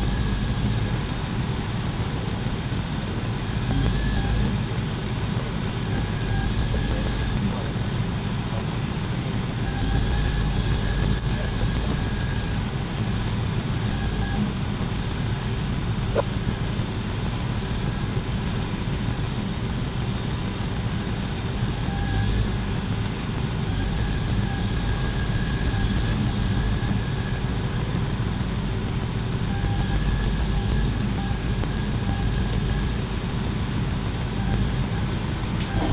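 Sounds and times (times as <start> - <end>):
large engine rumbling: 0.0 - 35.9.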